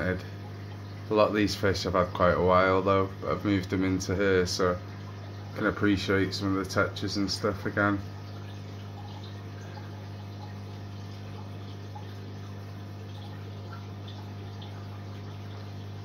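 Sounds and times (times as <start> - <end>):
water pump humming: 0.0 - 16.0
water trickling and dripping: 0.0 - 16.0.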